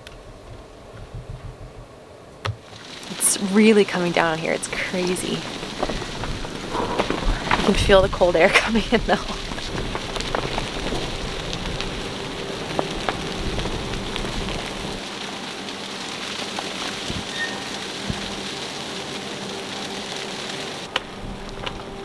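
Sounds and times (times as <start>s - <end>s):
rain on boat deck and canvas: 0.0s - 22.0s.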